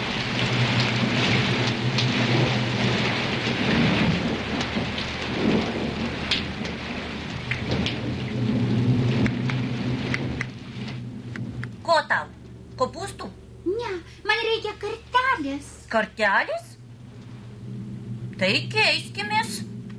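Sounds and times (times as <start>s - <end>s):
heavy rain pouring: 0.0s - 19.9s
low rumble of thunder: 0.0s - 19.9s
rain drops pattering: 0.0s - 19.9s.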